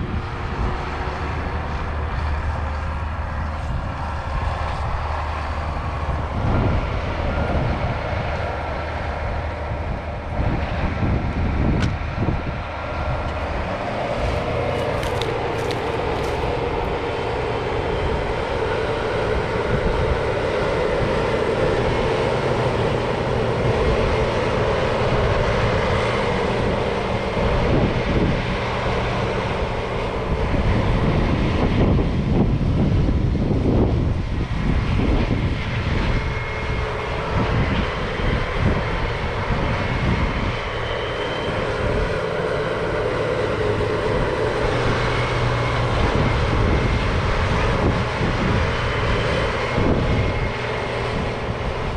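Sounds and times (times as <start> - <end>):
diesel farm machinery running: 0.0 - 51.9.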